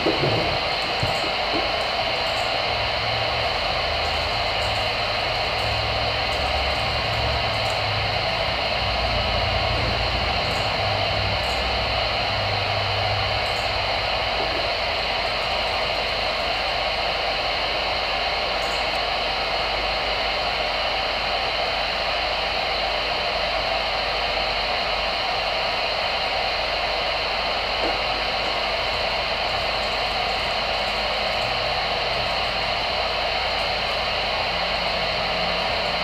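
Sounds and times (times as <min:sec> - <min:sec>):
radio static hiss: 0:00.0 - 0:36.0.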